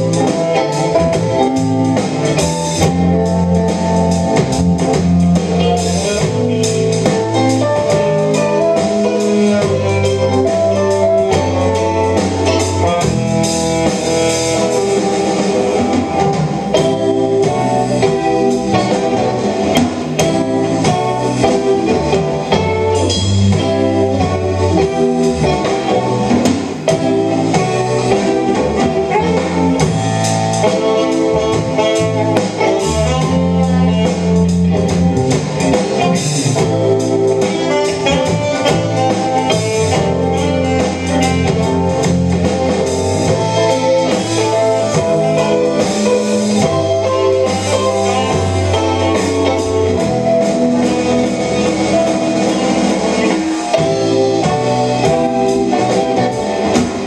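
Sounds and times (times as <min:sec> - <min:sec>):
bass guitar: 0:00.0 - 0:57.0
drums: 0:00.0 - 0:57.0
electric guitar: 0:00.0 - 0:57.0
small band playing live: 0:00.0 - 0:57.0
sustained keyboard chords: 0:00.0 - 0:57.0.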